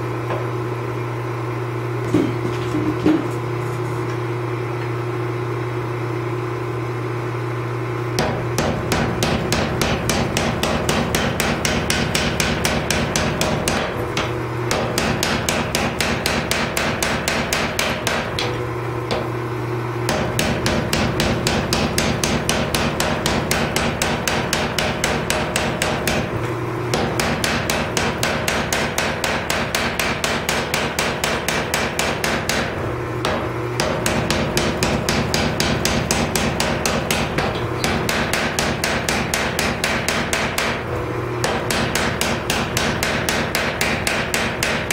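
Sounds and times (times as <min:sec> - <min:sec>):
machine hum: 0:00.0 - 0:44.9
power hammer pounding metal: 0:08.2 - 0:19.4, 0:20.0 - 0:44.9.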